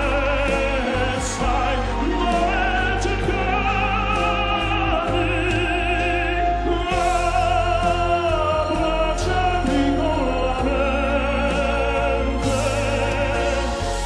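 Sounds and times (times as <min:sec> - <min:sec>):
instrumental accompaniment: 0:00.0 - 0:14.0
man singing operatic ballad: 0:00.0 - 0:14.0.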